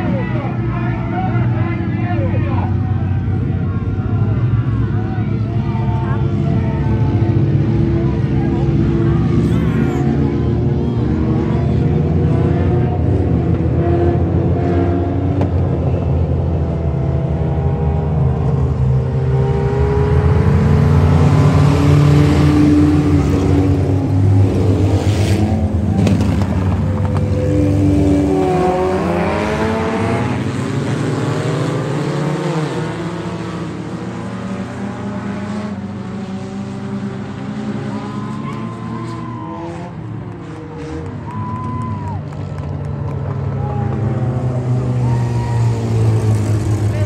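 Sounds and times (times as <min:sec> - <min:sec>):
racing car engines revving: 0:00.0 - 0:47.0.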